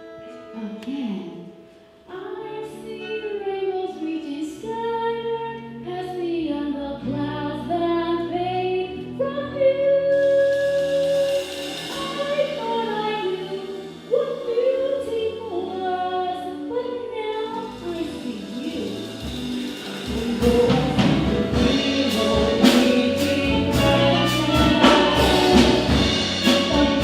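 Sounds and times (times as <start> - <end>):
musical accompaniment: 0.0 - 27.0
woman singing a slow ballad: 2.1 - 19.3, 19.9 - 27.0.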